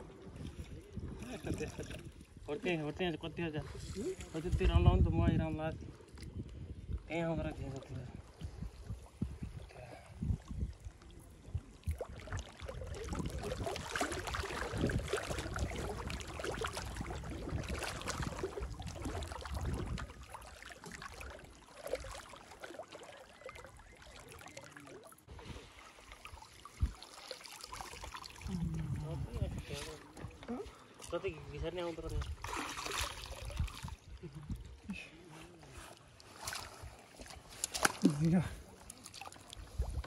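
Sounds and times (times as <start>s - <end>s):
water sloshing and splashing: 0.0s - 40.0s.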